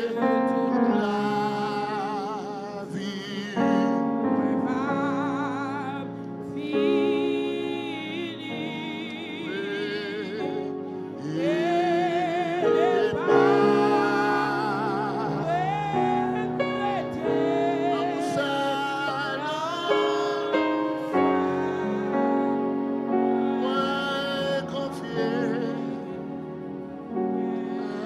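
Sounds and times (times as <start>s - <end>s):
person singing with vibrato: 0.0s - 28.0s
sustained accompanying chords: 0.0s - 28.0s.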